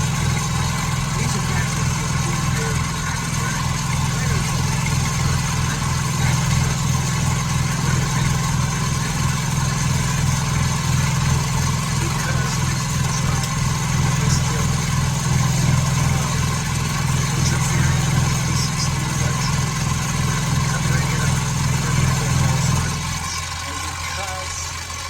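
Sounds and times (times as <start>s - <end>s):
machine tool humming: 0.0s - 25.0s.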